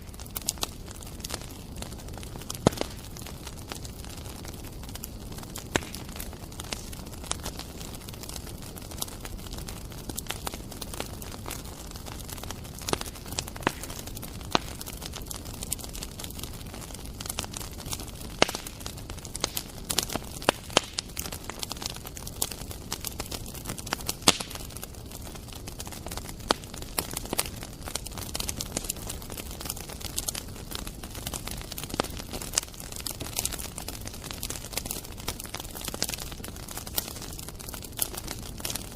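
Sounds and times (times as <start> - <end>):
bonfire crackling and popping: 0.0 - 38.9.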